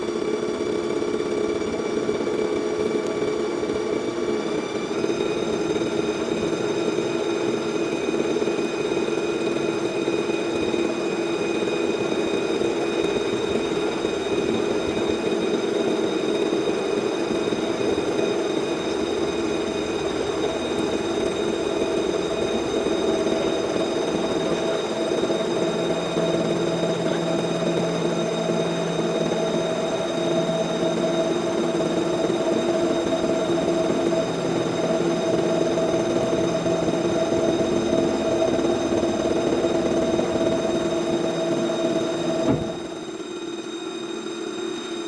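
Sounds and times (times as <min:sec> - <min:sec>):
cutter milling metal: 0:00.0 - 0:45.0
milling spindle whine: 0:00.0 - 0:45.0.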